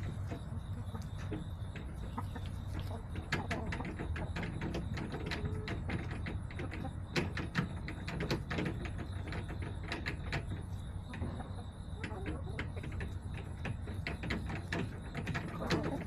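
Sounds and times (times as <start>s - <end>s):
hens pecking on hard surface: 0.0s - 16.0s.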